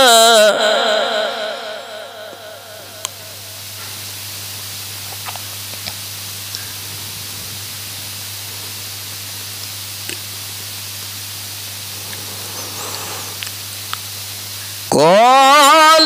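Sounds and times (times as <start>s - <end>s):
low electrical hum: 2.0s - 16.0s
steady hiss: 2.7s - 16.0s.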